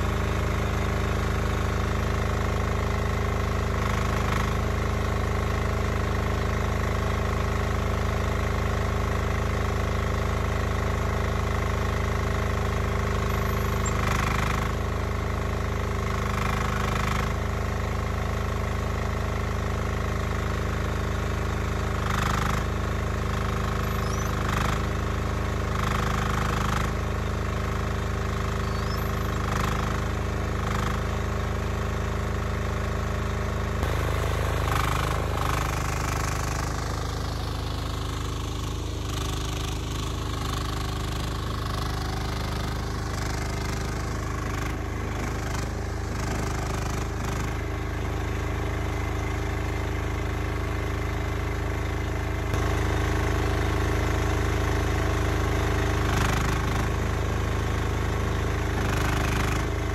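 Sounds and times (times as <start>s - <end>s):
mini excavator engine running: 0.0s - 59.9s.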